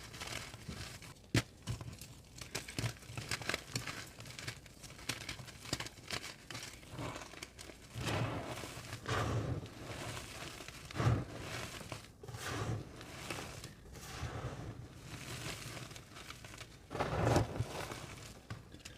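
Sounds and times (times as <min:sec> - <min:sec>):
chalk crunching and crumbling: 0:00.0 - 0:18.9.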